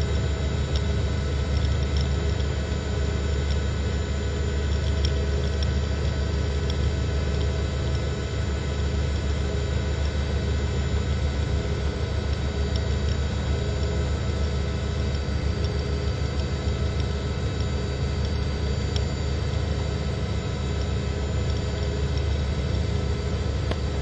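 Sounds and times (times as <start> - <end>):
helicopter engine and rotor noise: 0.0 - 24.0.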